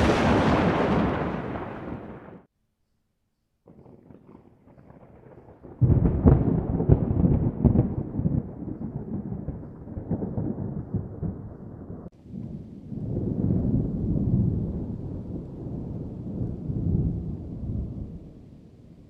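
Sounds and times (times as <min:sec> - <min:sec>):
low thunder rumble: 0:00.0 - 0:02.5, 0:03.7 - 0:19.0
thunder crack rolling: 0:00.0 - 0:02.5, 0:03.7 - 0:18.5.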